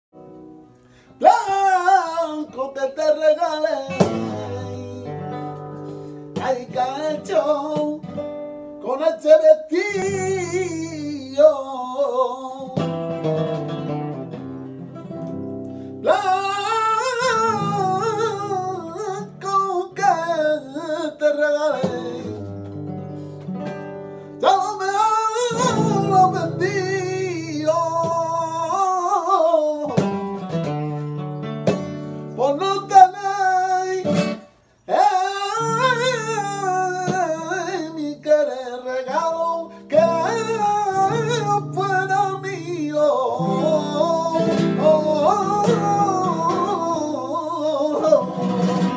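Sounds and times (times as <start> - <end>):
nylon-string guitar: 0.1 - 48.9
man singing flamenco: 0.2 - 48.9.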